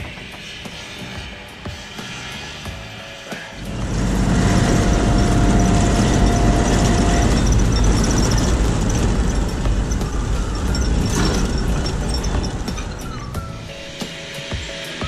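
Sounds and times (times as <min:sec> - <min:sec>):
sawmill machinery rumbling: 0:00.0 - 0:15.0
thin steady whine: 0:00.0 - 0:15.0.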